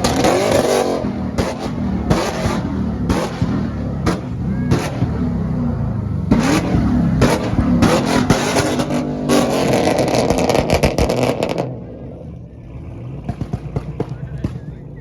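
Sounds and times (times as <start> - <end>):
car engine revving: 0.0 - 15.0
exhaust pops and crackles: 0.0 - 15.0.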